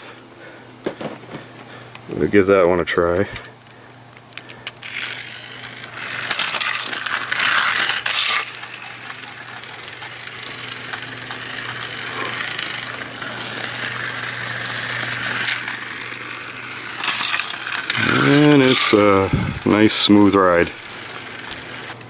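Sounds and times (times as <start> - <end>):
toy bus motor whirring rattle: 2.7 - 22.0
toy track clicks: 4.2 - 22.0.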